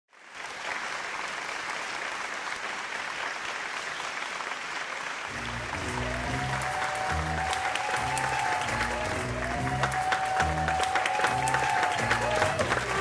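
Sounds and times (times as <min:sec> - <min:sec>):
audience applauding: 0:00.2 - 0:13.0.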